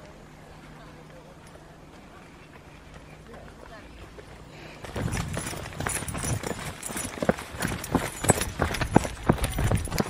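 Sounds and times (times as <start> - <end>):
running footsteps on dirt: 0.1 - 10.0.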